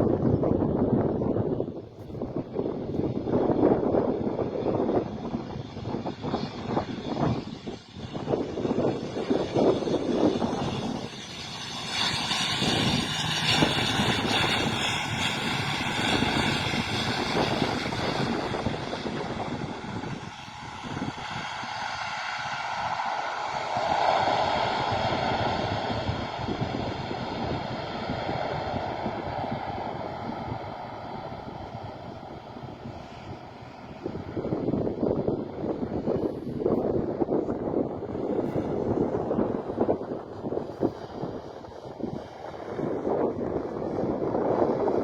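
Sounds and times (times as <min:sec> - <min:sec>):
jet engines roaring and whining: 0:00.0 - 0:45.0.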